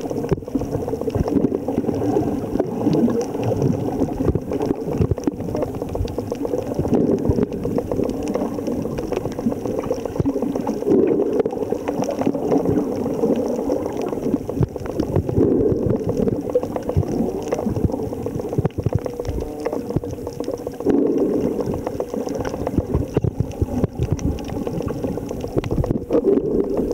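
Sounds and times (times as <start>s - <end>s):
muffled underwater rush of water: 0.0s - 26.9s.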